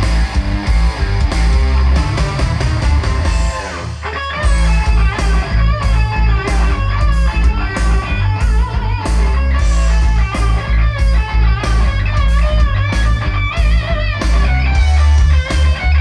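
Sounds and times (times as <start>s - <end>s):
heavy bass: 0.0s - 16.0s
music through speakers: 0.0s - 16.0s
steady drum beat: 0.0s - 16.0s
wavering electric guitar melody: 0.0s - 16.0s.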